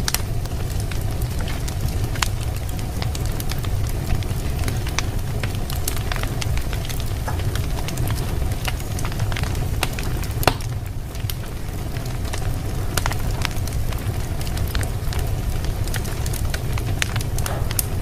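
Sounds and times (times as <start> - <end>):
fire crackling and popping: 0.0 - 18.0
low steady rumble: 0.0 - 18.0.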